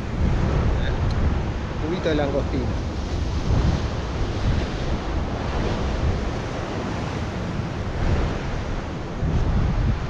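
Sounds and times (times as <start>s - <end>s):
surf breaking on rocks: 0.0s - 10.0s
wind buffeting microphone: 0.0s - 10.0s.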